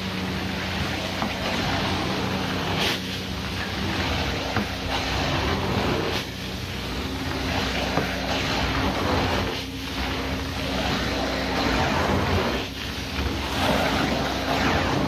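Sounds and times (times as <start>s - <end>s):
cleaning machine humming: 0.0s - 15.0s.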